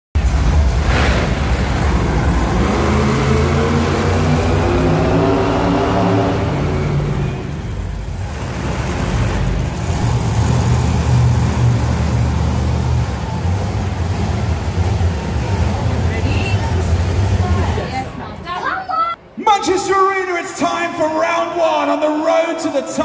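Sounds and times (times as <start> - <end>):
monster truck engines revving: 0.2 - 23.0.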